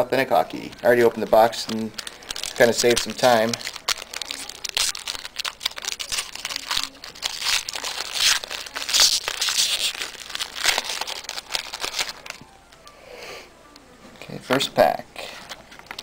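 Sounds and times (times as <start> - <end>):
foil wrappers crinkling and tearing: 0.5 - 12.8, 15.3 - 16.0.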